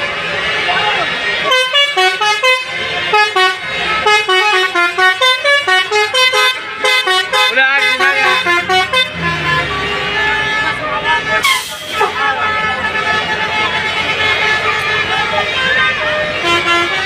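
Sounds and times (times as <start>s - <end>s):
musical air horn melody: 0.0s - 17.0s.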